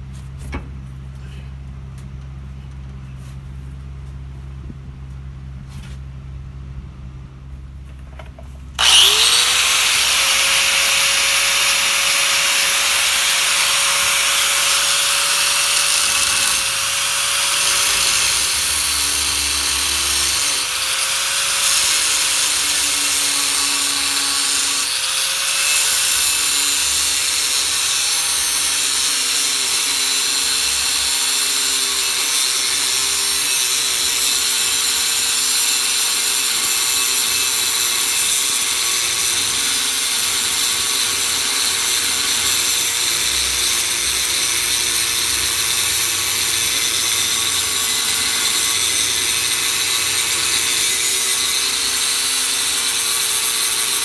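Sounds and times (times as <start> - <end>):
angle grinder grinding steel: 8.8 - 54.0.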